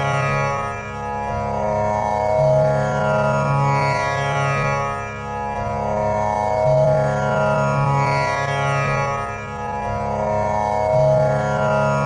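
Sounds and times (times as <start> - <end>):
tanpura drone plucked strings: 0.0 - 12.0.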